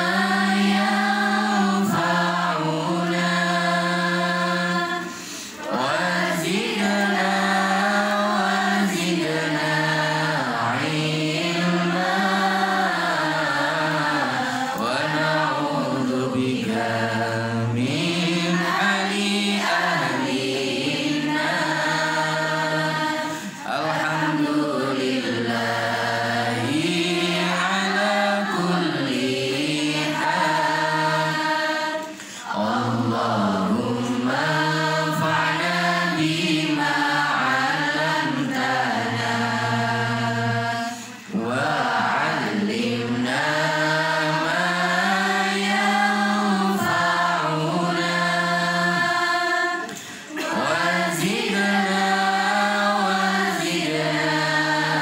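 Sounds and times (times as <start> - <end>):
women chanting a prayer in unison: 0.0 - 55.0.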